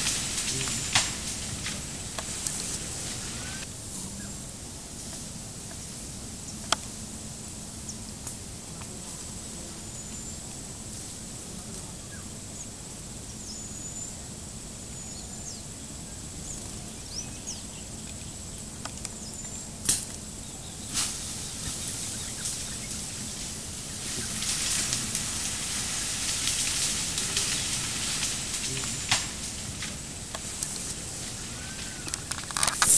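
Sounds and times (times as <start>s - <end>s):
steady high-pitched whine: 0.0s - 32.9s.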